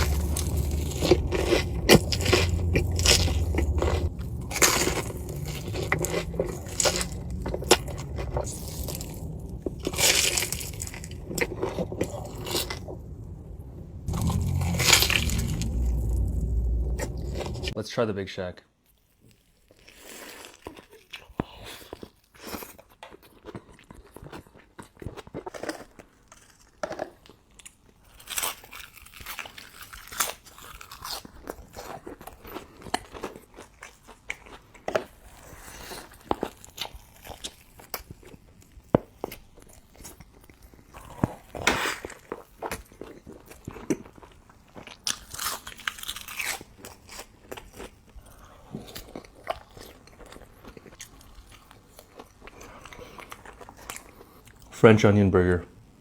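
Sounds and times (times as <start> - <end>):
biting and wet chewing: 0.0 - 17.8, 19.0 - 54.8.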